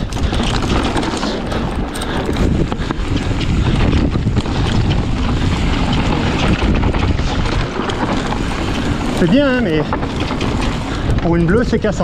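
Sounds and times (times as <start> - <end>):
mountain bike rattling and knocking: 0.0 - 12.0
wind buffeting microphone: 0.0 - 12.0.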